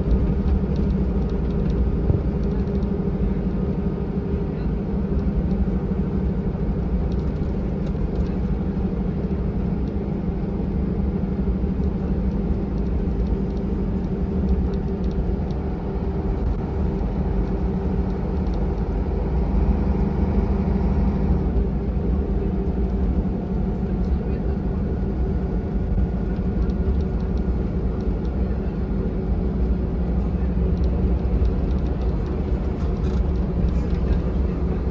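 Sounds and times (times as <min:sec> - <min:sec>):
bus diesel engine droning: 0:00.0 - 0:34.9
road and tyre noise: 0:00.0 - 0:34.9.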